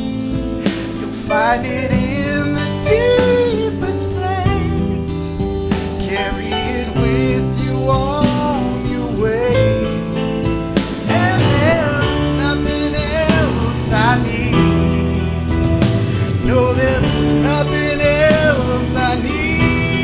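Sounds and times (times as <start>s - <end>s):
instrumental accompaniment: 0.0s - 20.0s
man singing into microphone: 0.0s - 20.0s.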